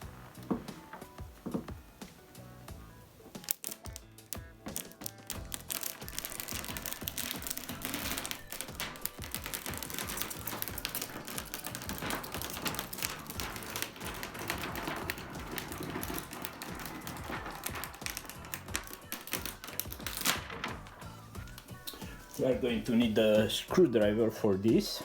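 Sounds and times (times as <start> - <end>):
clicks and taps of packaging: 0.0 - 22.5
background music: 0.0 - 25.0.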